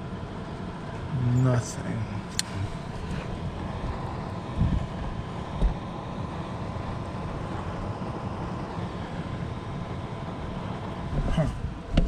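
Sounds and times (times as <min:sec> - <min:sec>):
blower rushing rumble: 0:00.0 - 0:12.0.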